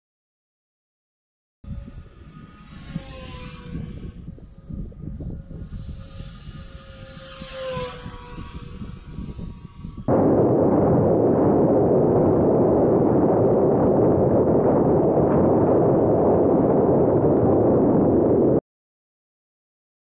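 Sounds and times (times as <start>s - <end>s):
wind buffeting camera: 1.6s - 18.6s.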